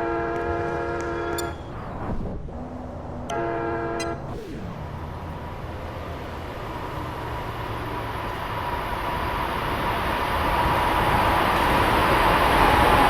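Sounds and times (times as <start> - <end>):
train rumble: 0.0 - 13.0
train whine: 0.0 - 13.0.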